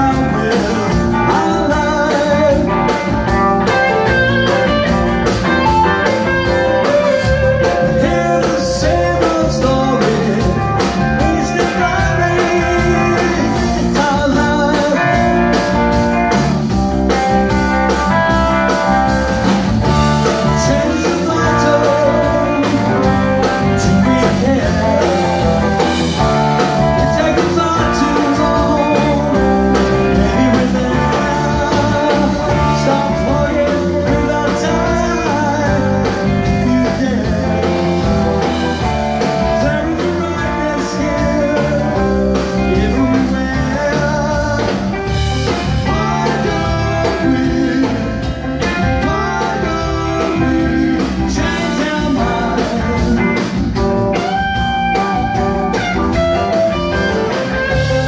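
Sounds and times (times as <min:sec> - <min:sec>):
drum kit: 0:00.0 - 0:58.0
electric bass: 0:00.0 - 0:58.0
electric guitars: 0:00.0 - 0:58.0.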